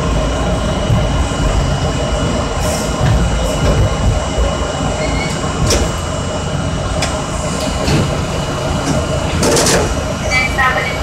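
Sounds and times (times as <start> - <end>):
subway car hum and rumble: 0.0 - 11.0.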